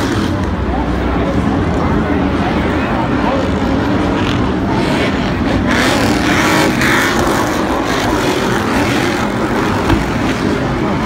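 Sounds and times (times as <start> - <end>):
race truck engines: 0.0 - 11.0.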